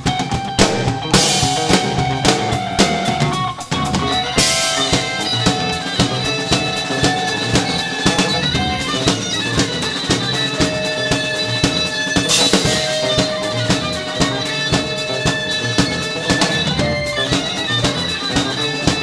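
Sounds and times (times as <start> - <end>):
drum kit hitting: 0.0 - 19.0
live rock band playing: 0.0 - 19.0.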